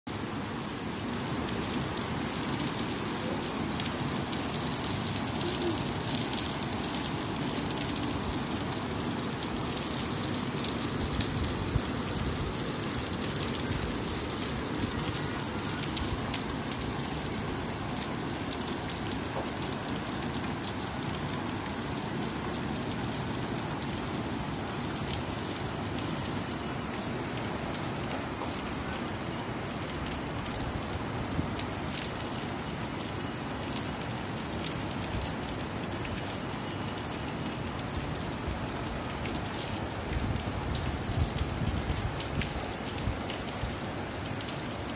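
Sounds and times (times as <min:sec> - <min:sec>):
rain on concrete rooftop: 0:00.1 - 0:44.9.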